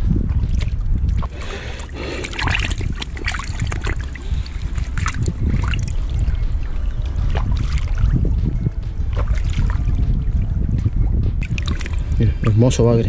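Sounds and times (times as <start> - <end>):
steady low rumble: 0.0 - 13.0
water splashing and trickling: 0.0 - 13.0.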